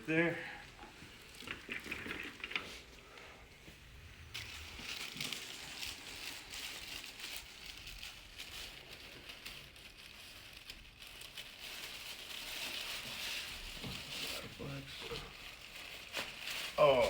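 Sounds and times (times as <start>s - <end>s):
rustling and crinkling: 0.1s - 17.0s.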